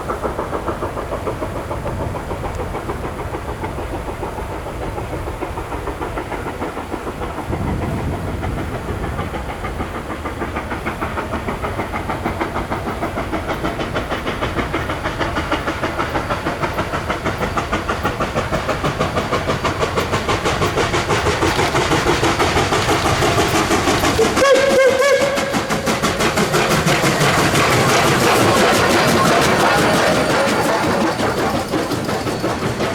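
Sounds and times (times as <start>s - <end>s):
rail noise: 0.0s - 32.9s
steam locomotive chuffing: 0.0s - 32.9s.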